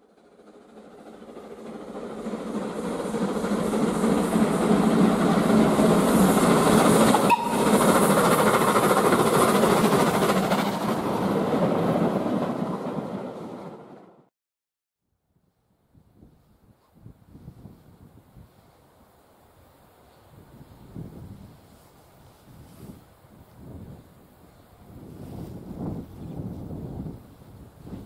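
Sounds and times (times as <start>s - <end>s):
steam locomotive passing: 0.0s - 14.3s, 16.4s - 28.0s.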